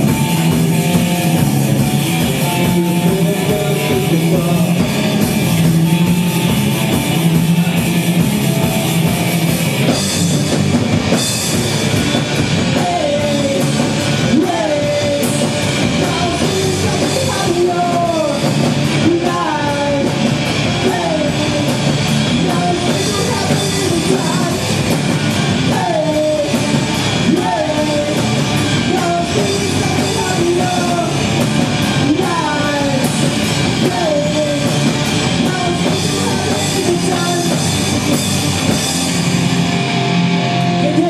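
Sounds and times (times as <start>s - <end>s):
rock band playing live: 0.0s - 41.0s.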